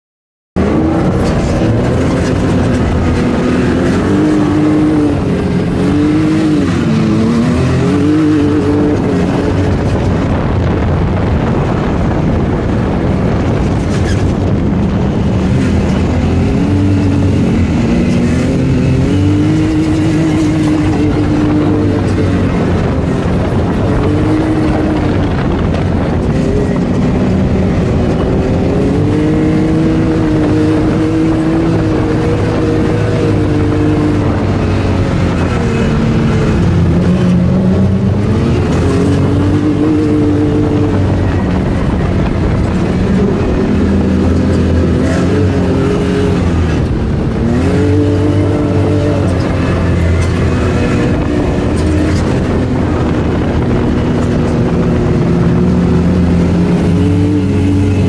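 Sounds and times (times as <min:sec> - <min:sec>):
sand rail engine revving: 0:00.6 - 0:58.0.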